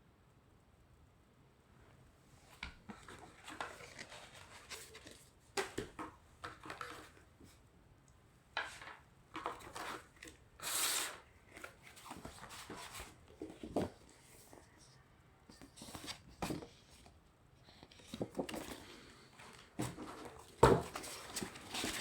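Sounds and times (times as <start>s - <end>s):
cardboard and paper rustling: 2.6s - 7.6s, 8.6s - 14.9s, 15.5s - 22.0s.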